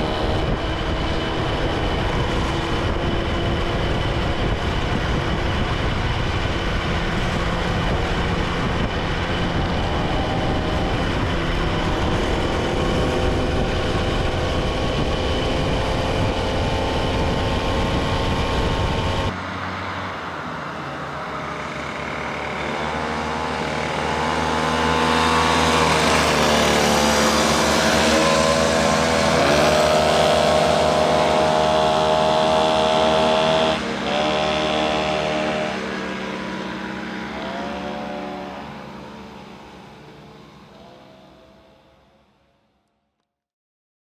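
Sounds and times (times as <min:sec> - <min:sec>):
vehicle engine running: 0:00.0 - 0:19.4, 0:20.8 - 0:42.4.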